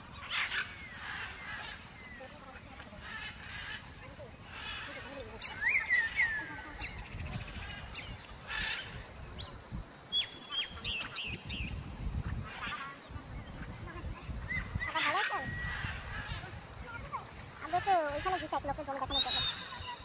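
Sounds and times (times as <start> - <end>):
birds chirping and whistling: 0.0 - 20.0.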